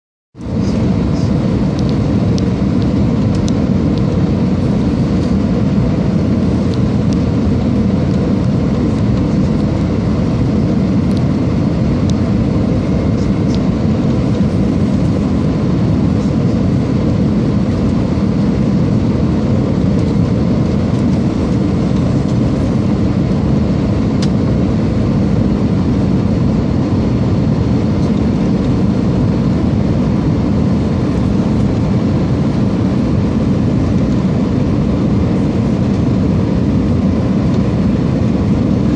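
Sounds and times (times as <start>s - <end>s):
aircraft engine rumble in cabin: 0.4s - 38.9s.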